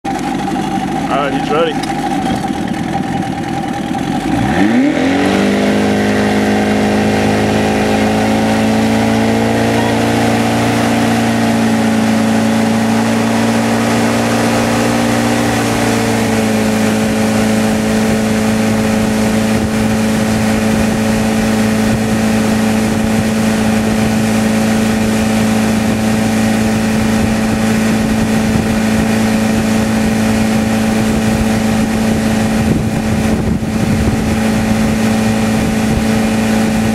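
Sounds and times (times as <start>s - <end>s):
motorboat engine revving: 0.0s - 36.9s
wind: 0.0s - 36.9s
water rushing: 0.3s - 36.9s.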